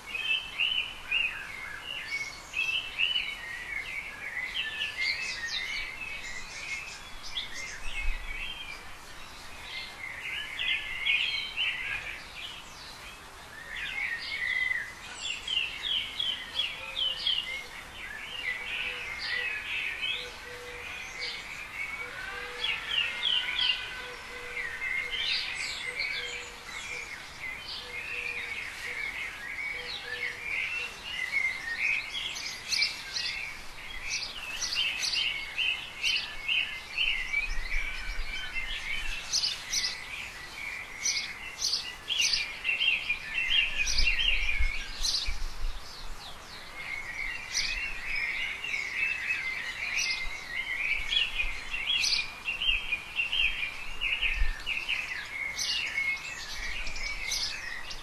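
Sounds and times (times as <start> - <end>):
birds chirping and warbling: 0.0 - 58.0.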